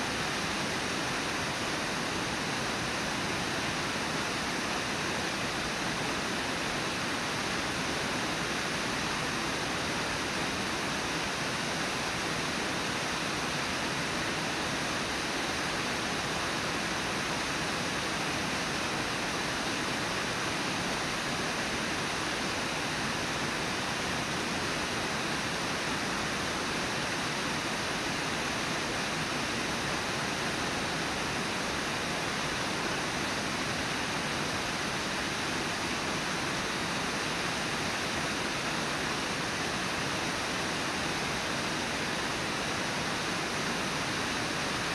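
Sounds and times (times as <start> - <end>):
river water over waterfall: 0.0 - 44.9.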